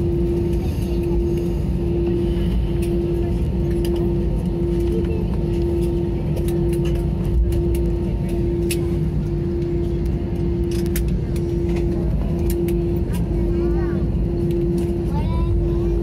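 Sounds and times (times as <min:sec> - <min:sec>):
jet engines: 0:00.0 - 0:16.0
steady cabin hum: 0:00.0 - 0:16.0.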